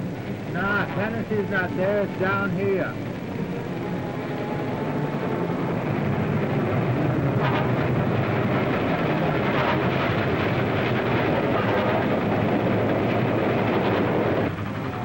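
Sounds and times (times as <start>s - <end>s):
train rumbling and clattering: 0.0s - 15.0s.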